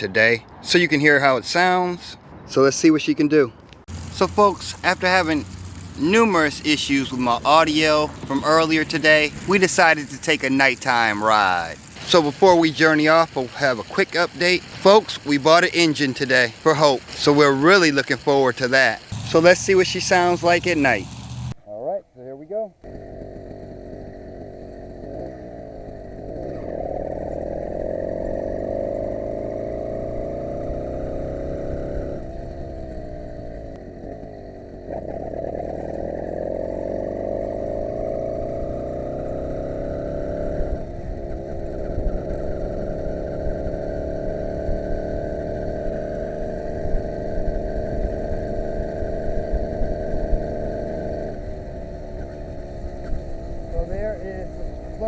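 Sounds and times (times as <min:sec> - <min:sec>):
two-stroke engine revving: 0:03.9 - 0:21.6, 0:22.8 - 0:55.0.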